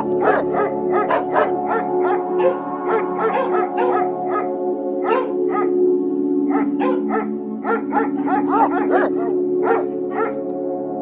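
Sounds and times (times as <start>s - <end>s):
dog barking: 0.1s - 5.8s, 6.5s - 10.4s.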